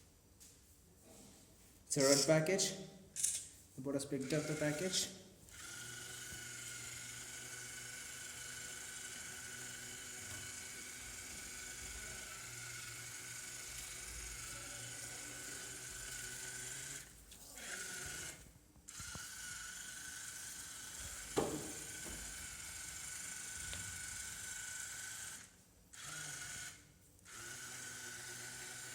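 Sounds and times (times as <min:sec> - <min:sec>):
robot drive motors whining: 0:04.2 - 0:28.9.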